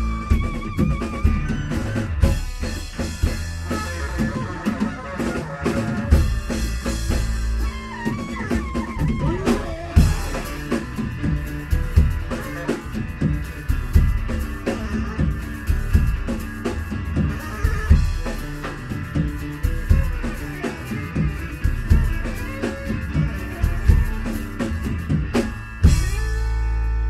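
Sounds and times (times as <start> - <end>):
drum kit with rimshots: 0.0 - 27.0
electric guitar: 0.0 - 27.0.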